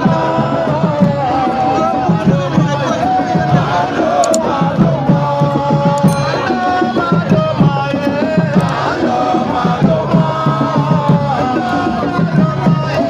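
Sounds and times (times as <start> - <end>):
crowd chanting and singing: 0.0 - 13.0
hand-drum beats: 0.0 - 13.0.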